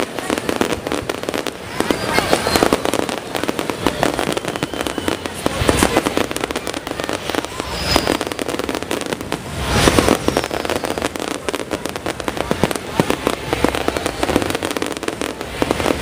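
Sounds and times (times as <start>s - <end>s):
fireworks booms: 0.0s - 16.0s
fireworks crackling and popping: 0.0s - 16.0s.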